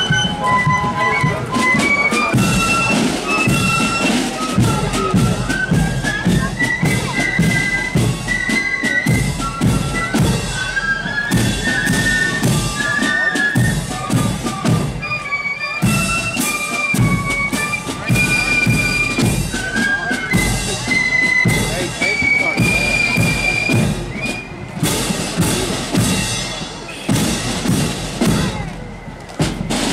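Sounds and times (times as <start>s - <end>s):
flutes playing melody: 0.0s - 29.9s
marching drums: 0.0s - 29.9s.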